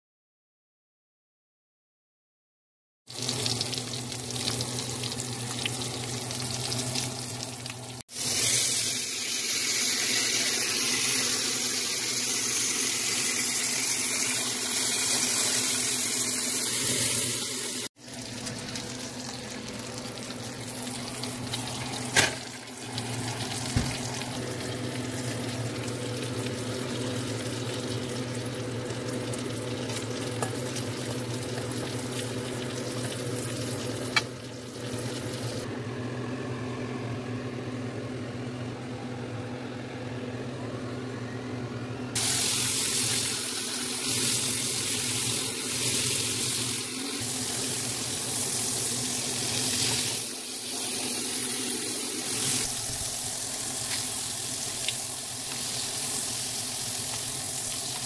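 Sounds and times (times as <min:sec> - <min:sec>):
fish sizzling in oil: 0:03.1 - 0:35.7, 0:42.2 - 0:58.0.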